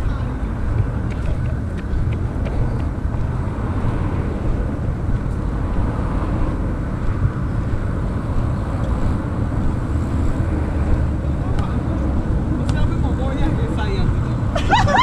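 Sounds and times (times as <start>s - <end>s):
road traffic rumble: 0.0s - 15.0s
wind buffeting microphone: 0.0s - 15.0s.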